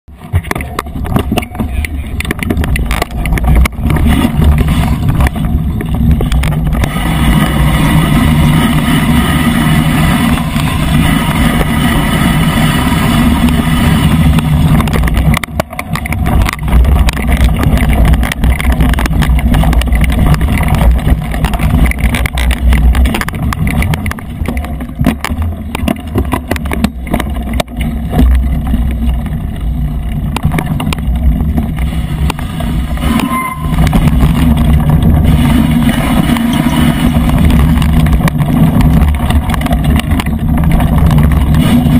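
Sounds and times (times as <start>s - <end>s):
bike knocks and rattles: 0.1s - 41.9s
buzzing tone: 0.1s - 41.9s.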